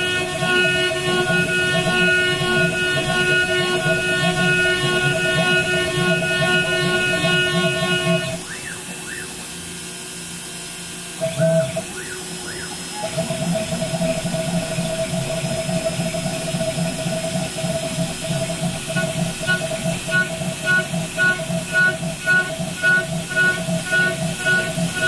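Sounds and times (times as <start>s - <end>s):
axis motors chirping: 0.0s - 25.0s
router spindle whine cutting metal: 0.0s - 25.0s.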